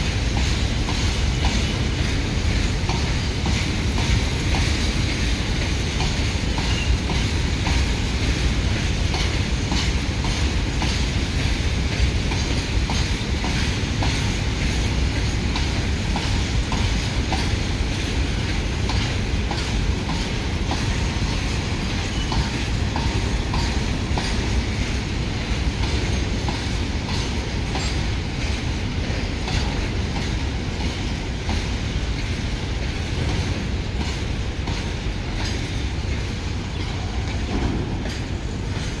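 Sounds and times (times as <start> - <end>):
low train rumble: 0.0 - 39.0
train wheels clattering over rail joints: 0.0 - 39.0.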